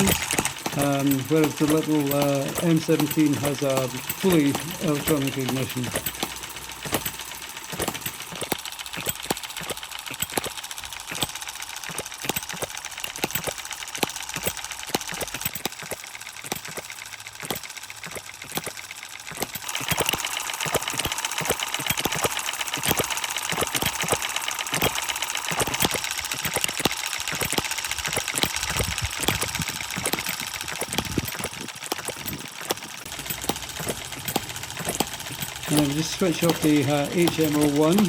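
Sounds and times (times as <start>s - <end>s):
model engines clattering: 0.0s - 38.0s.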